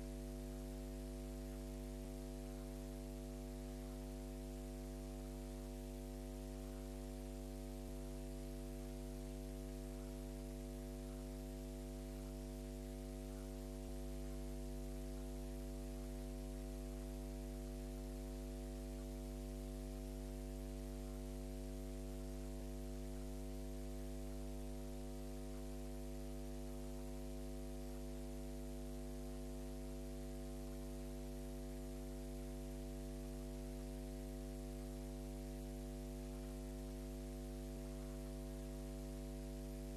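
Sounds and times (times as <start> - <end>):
constant hiss: 0.0 - 29.4, 30.2 - 39.9
electrical mains hum: 0.0 - 39.9.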